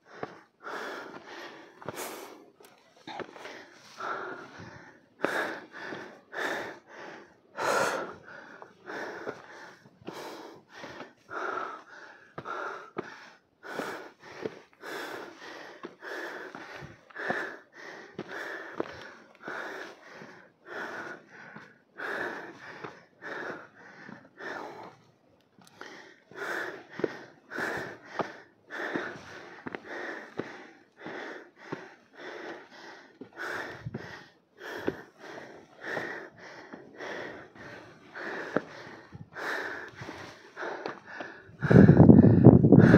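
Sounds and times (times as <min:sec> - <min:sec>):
person breathing hard and fast: 0:00.0 - 0:42.9.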